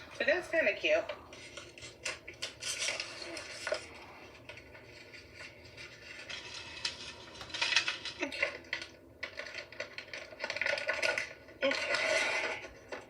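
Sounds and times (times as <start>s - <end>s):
packaging rustling: 1.2s - 13.0s.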